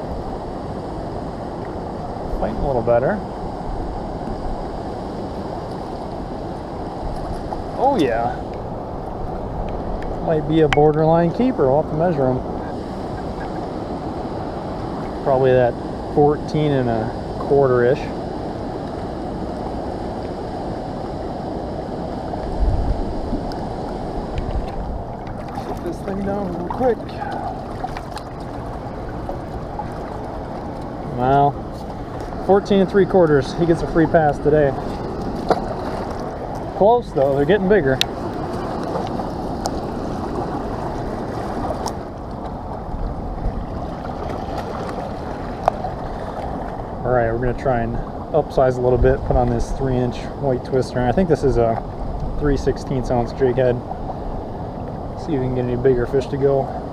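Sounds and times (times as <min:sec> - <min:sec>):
river current rushing: 0:00.0 - 0:56.9.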